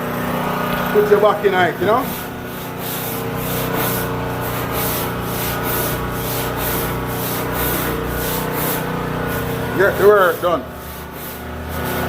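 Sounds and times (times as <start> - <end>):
steady mechanical hum: 0.0 - 12.0
brush scrubbing a floor: 1.0 - 12.0.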